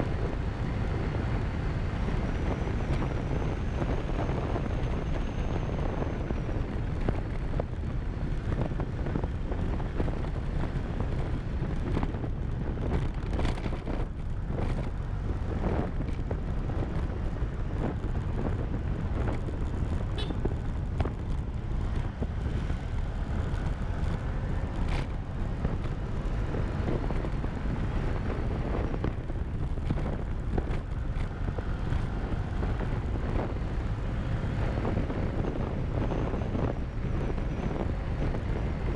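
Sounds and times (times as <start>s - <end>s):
wind rumble on microphone: 0.0s - 38.9s
motorcycle engine running: 6.7s - 38.9s.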